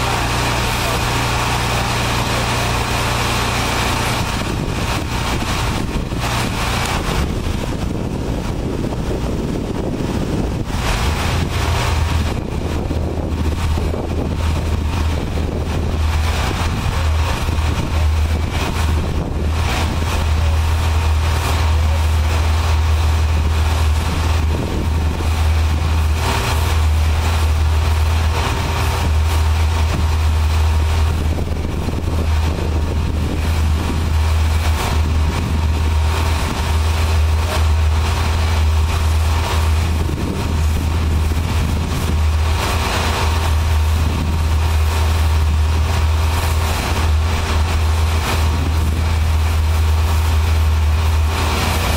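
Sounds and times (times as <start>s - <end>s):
heavy engine idling: 0.0s - 51.9s.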